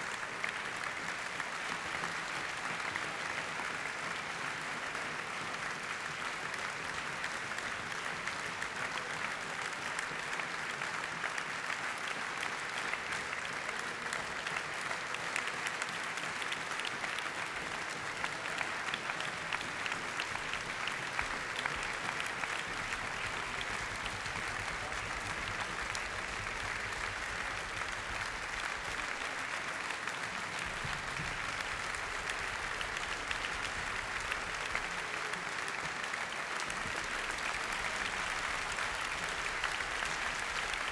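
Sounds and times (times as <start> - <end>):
audience clapping: 0.0 - 40.9.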